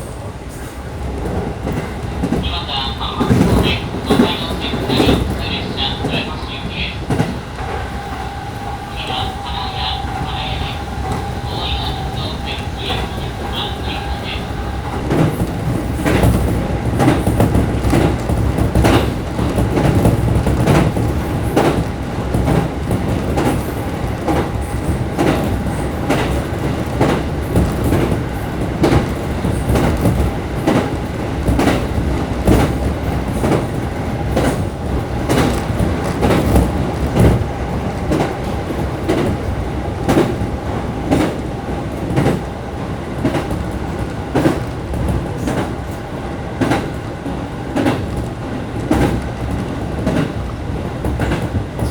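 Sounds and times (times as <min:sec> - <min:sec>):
train rumbling along track: 0:00.0 - 0:51.9
wheels clacking over rail joints: 0:01.0 - 0:51.9.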